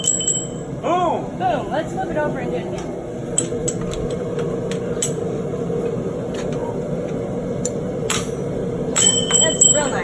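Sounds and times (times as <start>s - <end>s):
low rushing noise: 0.0s - 10.0s.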